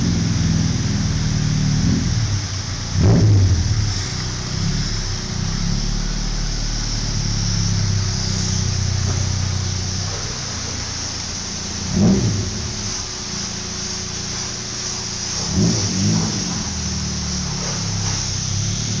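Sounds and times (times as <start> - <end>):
car engine revving through exhaust: 0.0 - 19.0.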